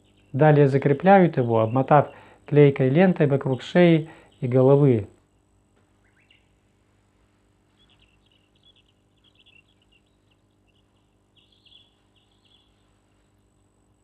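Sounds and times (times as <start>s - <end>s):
faint high chirping: 0.0s - 14.0s
low steady hum: 0.0s - 14.0s.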